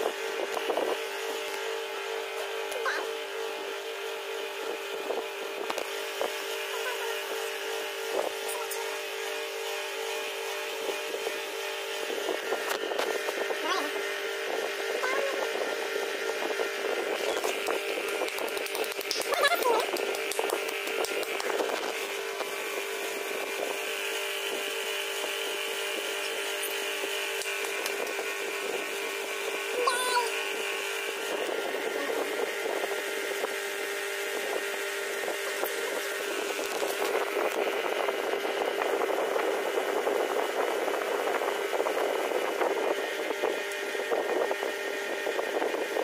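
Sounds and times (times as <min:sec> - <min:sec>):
electric fan whirring: 0:00.0 - 0:46.0
steady hum: 0:00.0 - 0:46.0.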